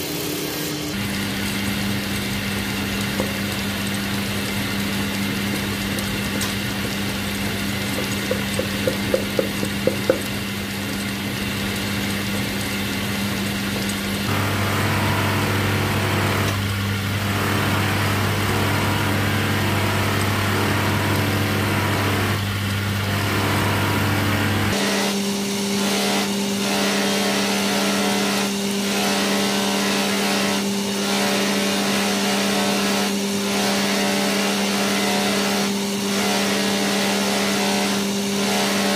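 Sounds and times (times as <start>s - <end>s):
electric motor humming: 0.0s - 38.9s.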